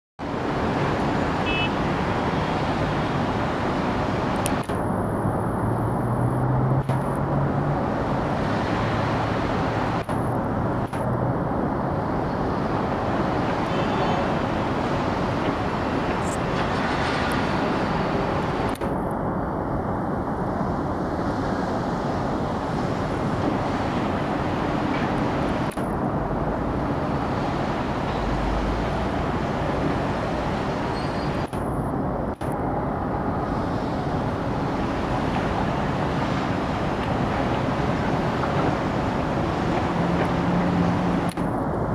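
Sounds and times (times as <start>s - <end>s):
city traffic noise: 0.2s - 41.9s.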